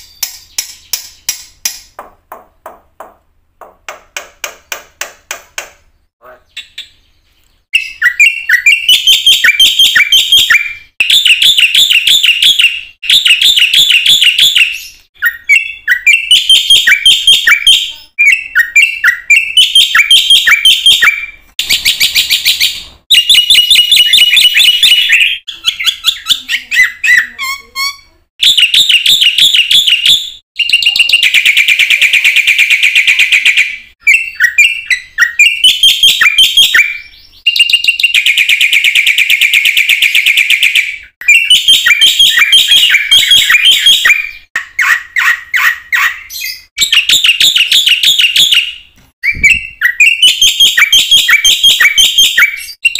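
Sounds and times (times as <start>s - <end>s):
bird singing chirps and whistles: 6.5s - 52.9s.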